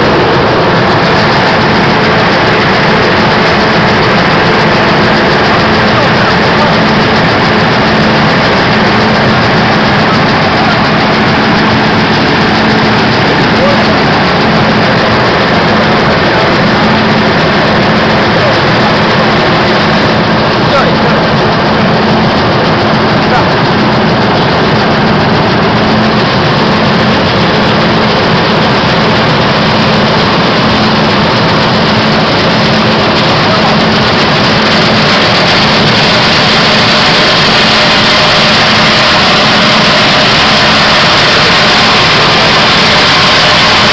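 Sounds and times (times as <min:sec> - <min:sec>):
machine fan and vibrating deck: 0:00.0 - 0:43.9
steady hum: 0:00.0 - 0:43.9.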